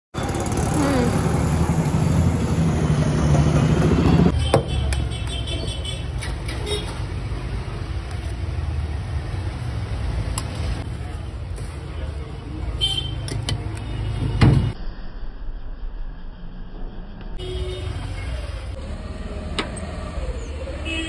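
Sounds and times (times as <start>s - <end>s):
street traffic hum: 0.1s - 14.8s, 16.2s - 21.0s.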